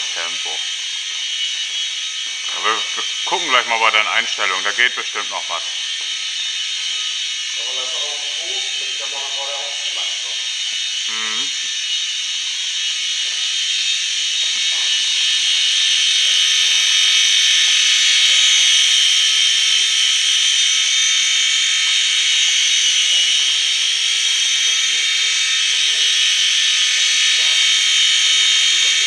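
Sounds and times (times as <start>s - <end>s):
model helicopter rotors whining: 0.0s - 29.0s.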